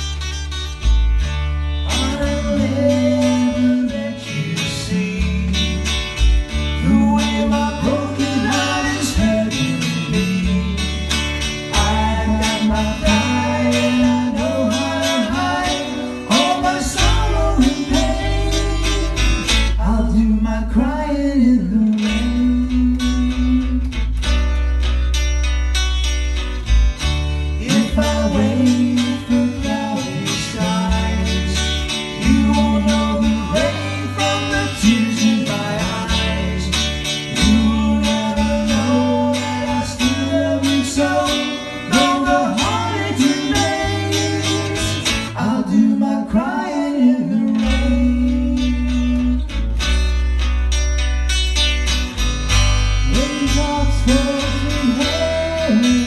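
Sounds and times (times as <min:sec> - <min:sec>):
bass guitar: 0:00.0 - 0:56.0
electric guitar: 0:00.0 - 0:56.0.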